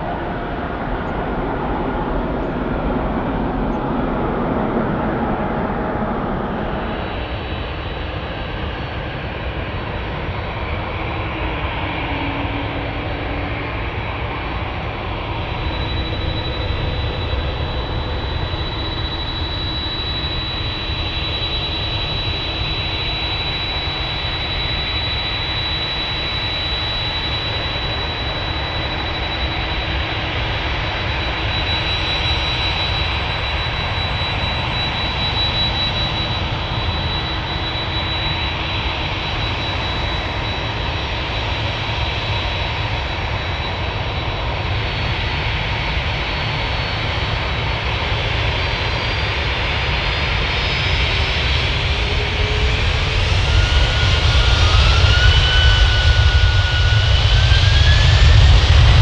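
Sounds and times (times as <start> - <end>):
high jet engine whine: 0.0 - 59.0
jet engines rushing: 0.0 - 59.0.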